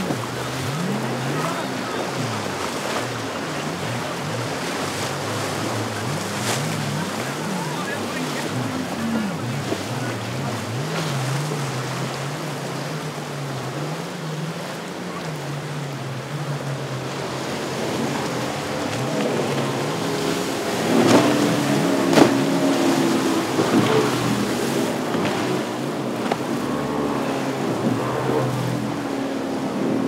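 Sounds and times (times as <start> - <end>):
motorboat engines droning: 0.0 - 30.0.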